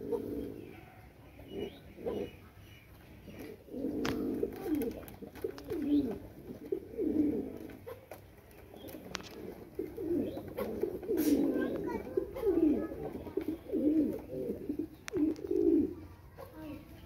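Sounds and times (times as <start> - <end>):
pigeon cooing: 0.0 - 2.6, 3.2 - 8.2, 8.8 - 17.0.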